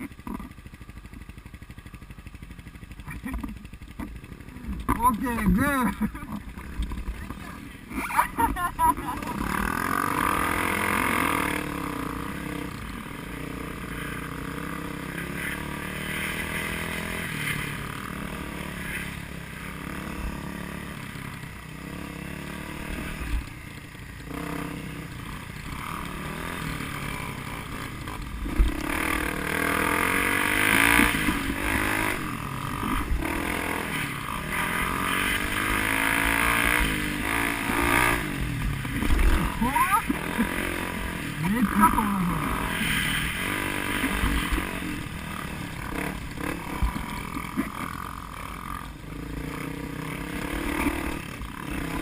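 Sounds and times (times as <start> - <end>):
vehicle engine revving: 0.0 - 52.0.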